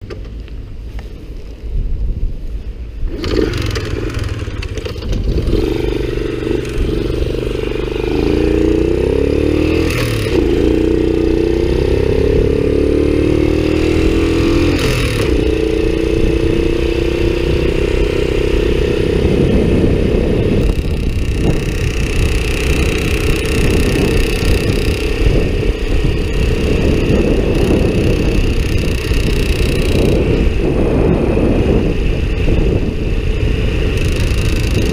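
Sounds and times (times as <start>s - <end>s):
abnormal mechanical engine noise: 0.0s - 34.9s
small motorcycle engine running: 3.0s - 34.9s.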